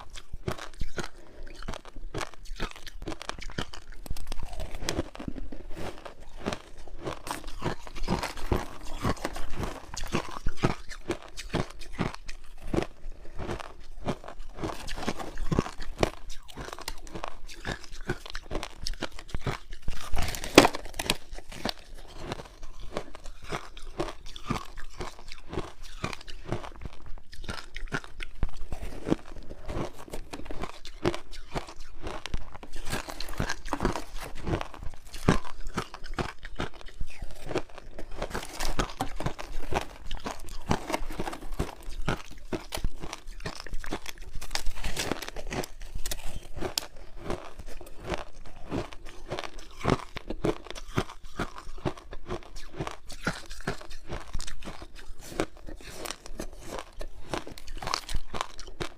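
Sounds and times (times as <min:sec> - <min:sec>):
teeth crunching frozen ice: 0:00.0 - 0:58.9.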